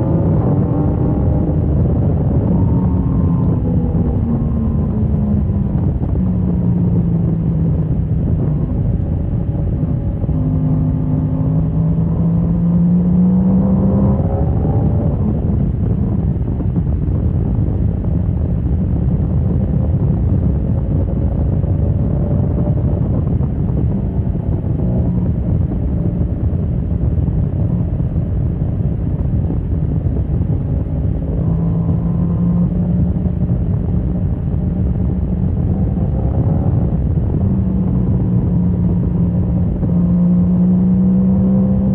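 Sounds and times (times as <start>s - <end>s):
motorcycle engine running: 0.0s - 41.9s
wind rumble on microphone: 0.0s - 41.9s.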